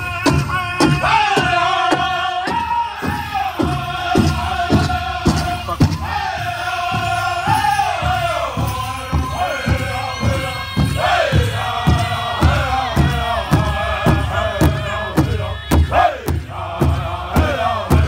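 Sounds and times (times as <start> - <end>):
group of voices singing: 0.0 - 18.0
big drum struck in unison: 0.2 - 18.0.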